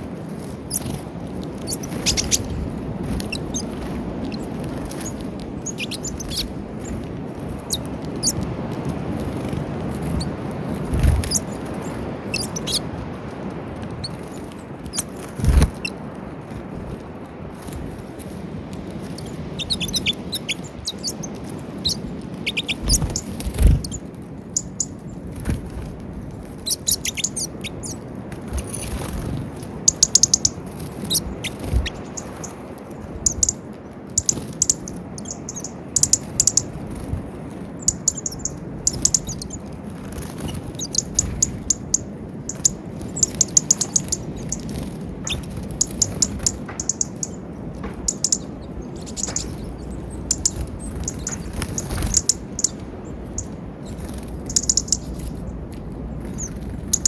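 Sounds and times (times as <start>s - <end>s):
small birds chirping: 0.0s - 57.0s
steady low background noise: 0.0s - 57.0s.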